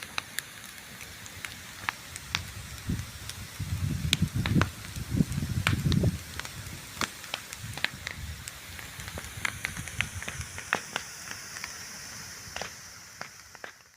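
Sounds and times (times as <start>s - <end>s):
bonfire crackling and popping: 0.0s - 13.9s
fire hissing: 0.0s - 13.9s.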